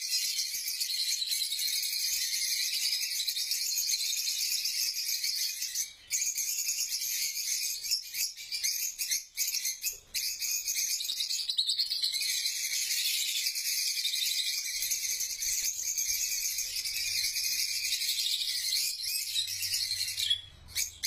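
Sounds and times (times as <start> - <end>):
flock of birds chirping shrilly: 0.0 - 21.0.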